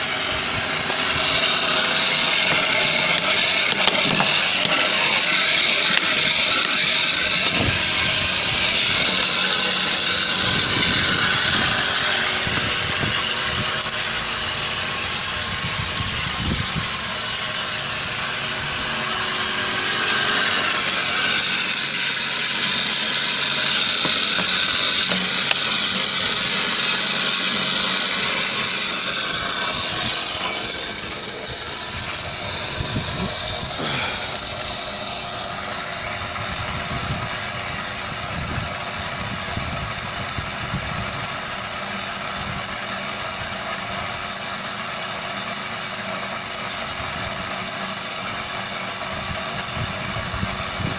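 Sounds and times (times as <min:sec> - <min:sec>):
sprayer pump hissing: 0:00.0 - 0:50.9.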